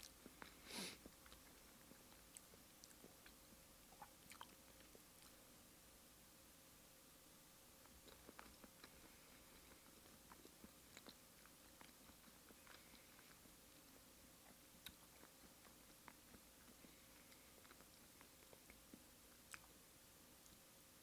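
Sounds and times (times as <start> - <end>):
wet mouth clicks chewing: 0.0 - 5.4, 7.8 - 19.8.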